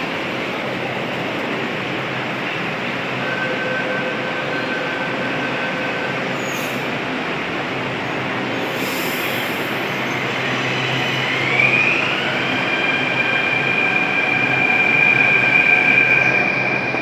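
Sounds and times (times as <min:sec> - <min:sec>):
train rail noise: 0:00.0 - 0:17.0.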